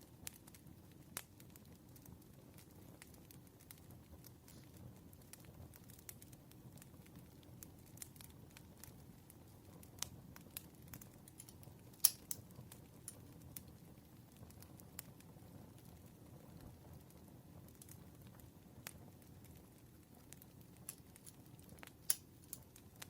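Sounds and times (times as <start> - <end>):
fire popping and snapping: 0.0 - 23.0
fire rumbling: 0.0 - 23.0.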